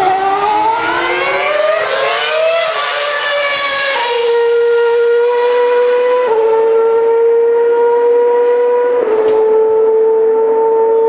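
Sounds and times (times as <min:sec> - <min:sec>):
race car engine screaming: 0:00.0 - 0:11.0.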